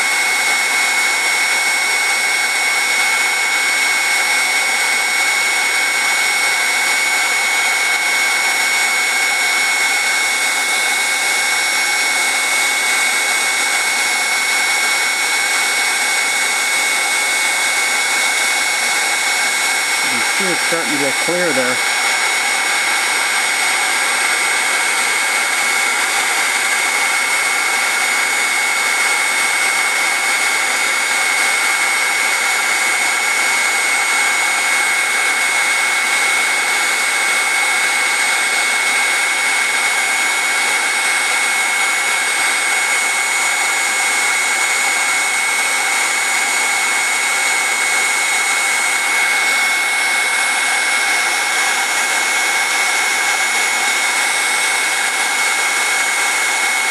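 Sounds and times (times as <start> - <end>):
heat gun blowing hot air: 0.0 - 56.9.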